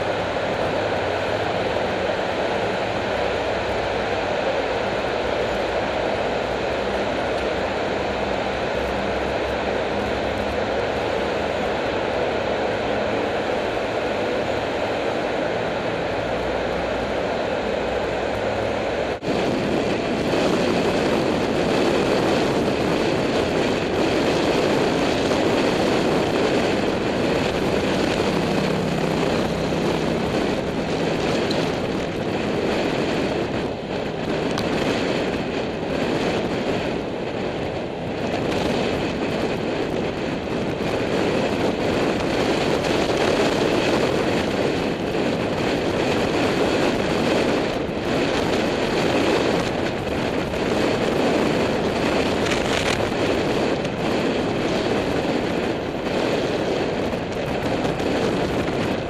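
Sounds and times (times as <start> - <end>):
passing traffic: 0.0 - 59.0
wind buffeting microphone: 0.0 - 59.0.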